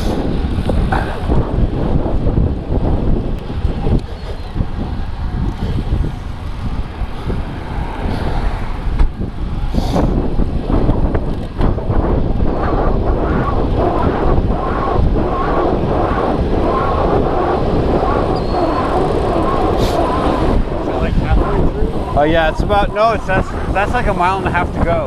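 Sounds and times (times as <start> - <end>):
rushing road noise: 0.0 - 25.0
wind buffeting microphone: 0.0 - 25.0.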